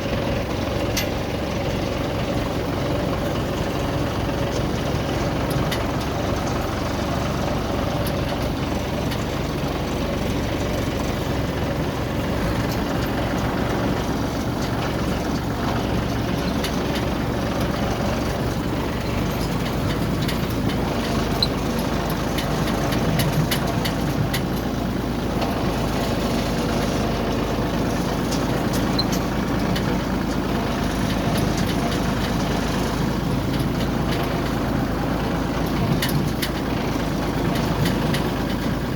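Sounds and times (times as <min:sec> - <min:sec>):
combine harvester droning: 0:00.0 - 0:38.9.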